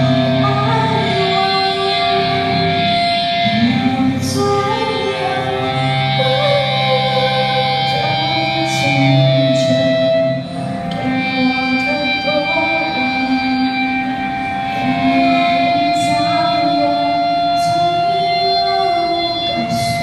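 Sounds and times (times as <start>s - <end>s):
electric guitar notes: 0.0s - 20.0s
person singing: 0.0s - 20.0s.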